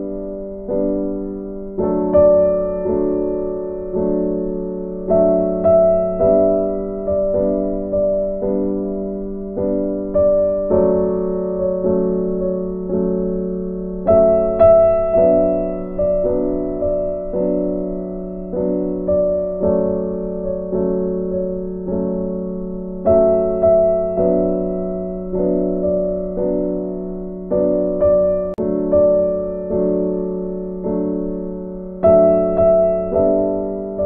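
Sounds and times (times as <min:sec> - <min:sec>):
gentle piano melody: 0:00.0 - 0:34.0.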